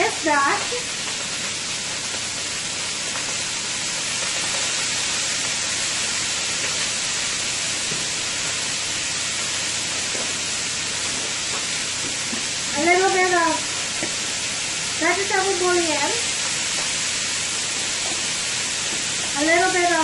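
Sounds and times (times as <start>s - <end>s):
fish frying in a pan: 0.0s - 20.0s
shrimp sizzling in hot oil: 0.0s - 20.0s.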